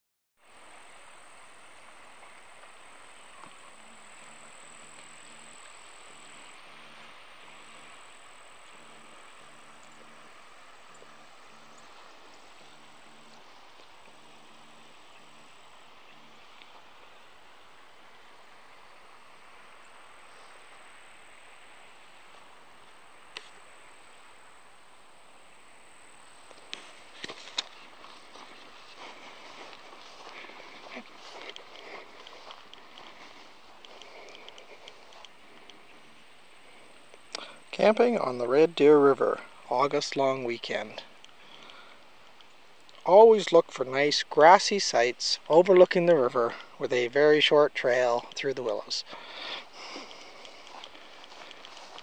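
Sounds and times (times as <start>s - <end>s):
faint low hum: 0.4s - 52.0s
open-air ambience hiss: 0.4s - 52.0s.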